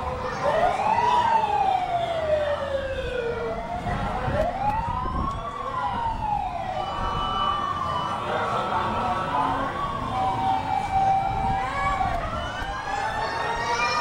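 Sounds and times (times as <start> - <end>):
fire truck siren wailing: 0.0 - 14.0.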